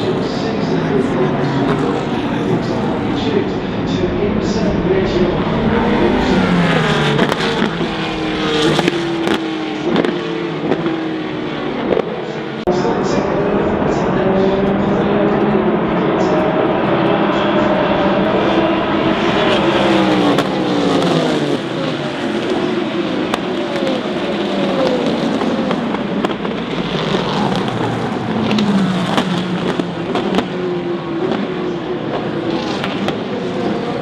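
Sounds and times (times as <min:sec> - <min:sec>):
race cars passing at speed: 0:00.0 - 0:34.0.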